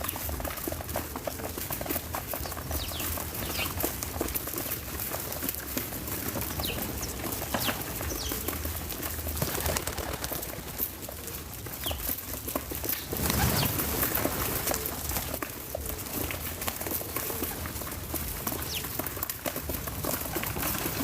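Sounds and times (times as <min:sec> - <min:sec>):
steady outdoor rumble: 0:00.0 - 0:21.0.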